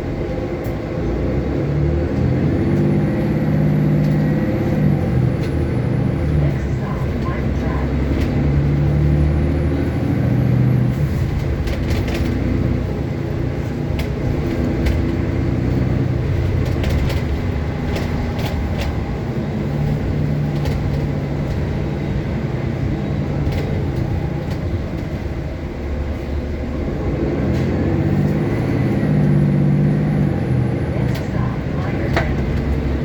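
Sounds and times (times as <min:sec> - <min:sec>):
bus engine drone: 0:00.0 - 0:33.0.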